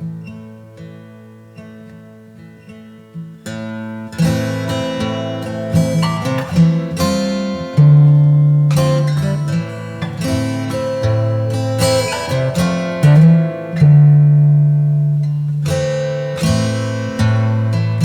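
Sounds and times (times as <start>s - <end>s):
acoustic guitar music: 0.0s - 18.0s.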